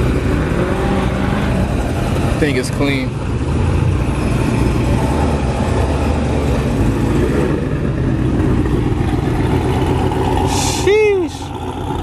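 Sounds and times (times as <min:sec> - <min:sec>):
car engine deep exhaust note: 0:00.0 - 0:12.0.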